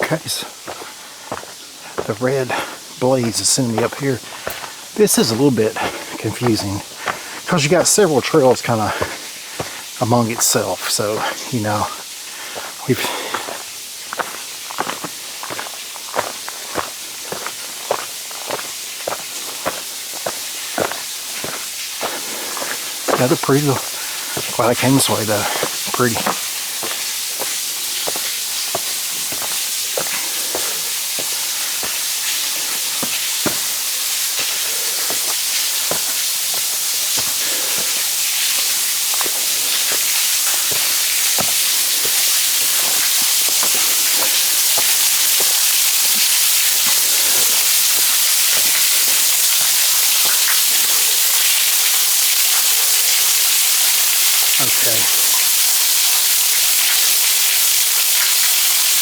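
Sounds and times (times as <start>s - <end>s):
footsteps crunching on trail: 0.0s - 53.2s
rushing water: 0.0s - 59.0s.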